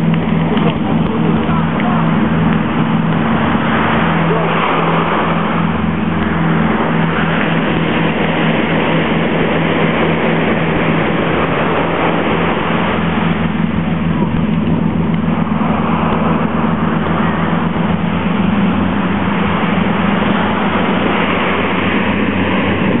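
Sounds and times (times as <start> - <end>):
heavy surf breaking: 0.0 - 23.0
low rumble of waves: 0.0 - 23.0.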